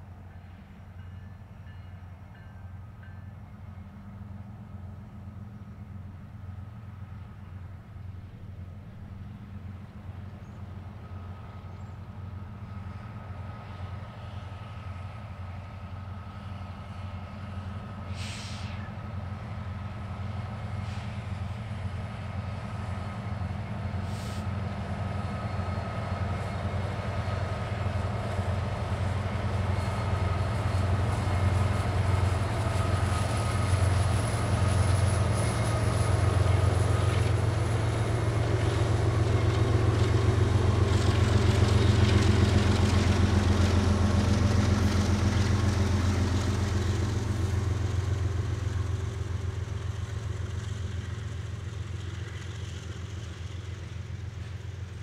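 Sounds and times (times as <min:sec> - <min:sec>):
locomotive engine drone: 0:00.0 - 0:55.0.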